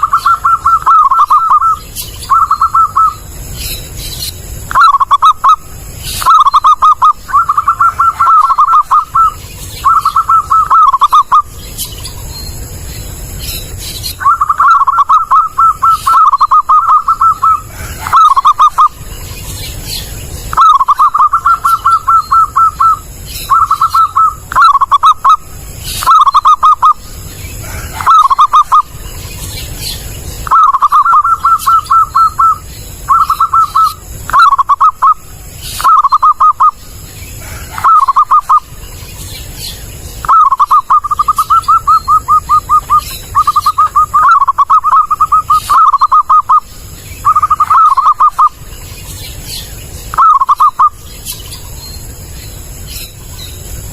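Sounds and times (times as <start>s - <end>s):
dove cooing: 0.0s - 3.4s, 4.6s - 11.5s, 14.1s - 19.0s, 19.8s - 38.8s, 40.2s - 48.7s, 50.1s - 51.0s.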